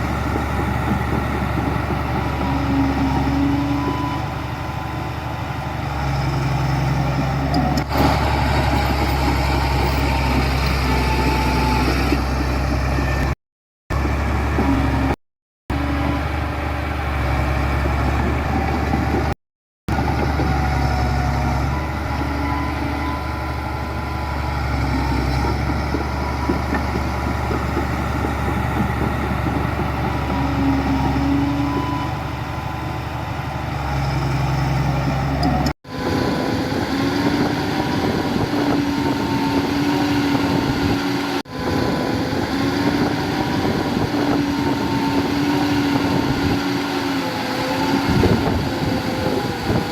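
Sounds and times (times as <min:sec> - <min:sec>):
heavy diesel engines rumbling: 0:00.0 - 0:49.9.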